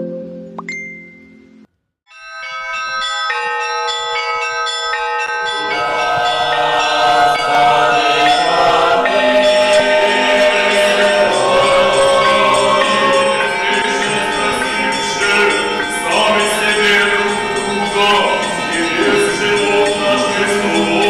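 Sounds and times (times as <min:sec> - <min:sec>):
bells ringing: 0:00.6 - 0:21.0.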